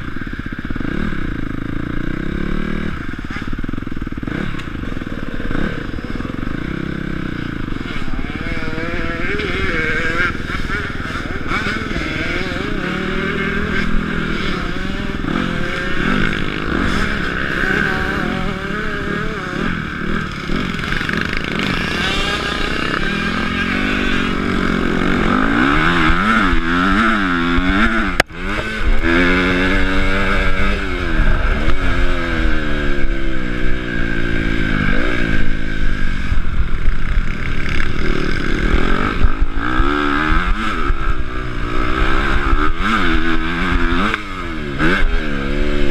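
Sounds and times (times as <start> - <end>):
motocross engine revving: 0.0 - 45.9.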